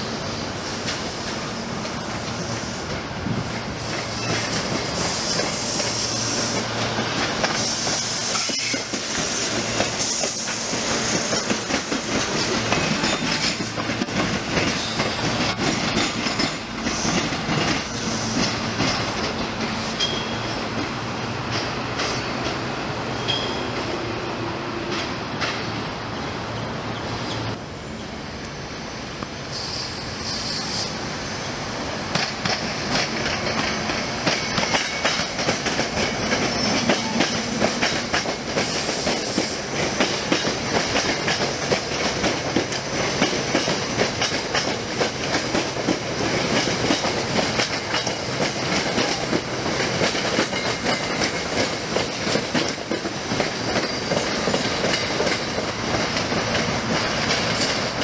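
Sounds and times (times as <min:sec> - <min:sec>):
train wheels clicking over rail joints: 0:00.6 - 0:24.0, 0:24.7 - 0:25.8, 0:31.9 - 0:58.0.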